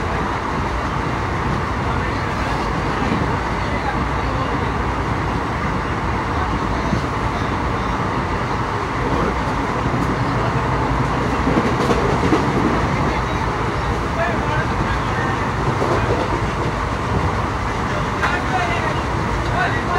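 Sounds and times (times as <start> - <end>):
train wheels on rail: 0.0 - 19.9.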